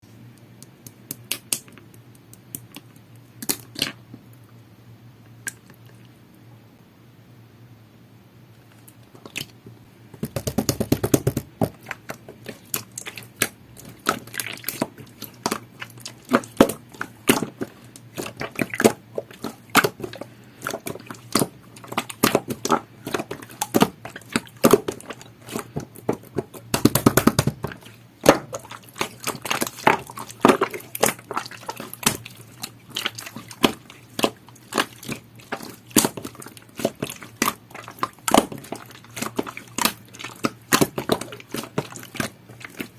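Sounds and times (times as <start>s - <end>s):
slime squishing with wet pops: 0.4s - 4.1s, 8.8s - 9.6s, 10.3s - 42.9s.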